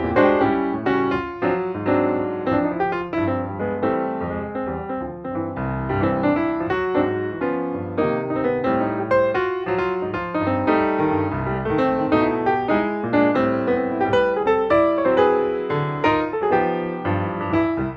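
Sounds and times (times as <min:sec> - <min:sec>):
solo piano music: 0:00.0 - 0:17.9.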